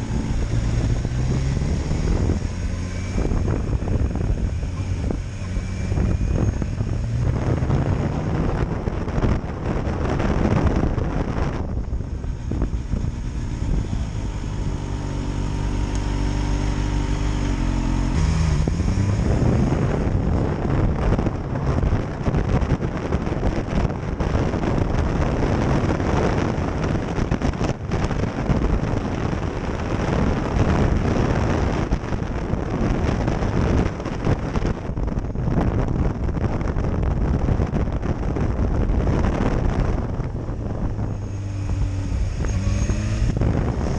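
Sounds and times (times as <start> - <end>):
motorcycle engine revving: 0.0 - 43.9
wind rushing over microphone: 0.0 - 43.9.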